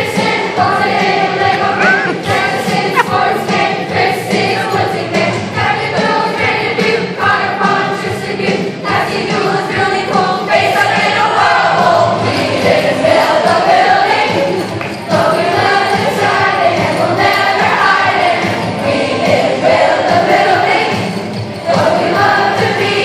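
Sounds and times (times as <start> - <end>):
children's choir singing: 0.0 - 23.0.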